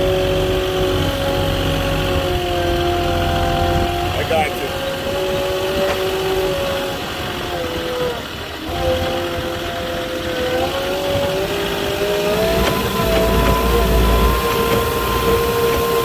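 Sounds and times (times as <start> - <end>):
forklift engine revving: 0.0 - 16.0.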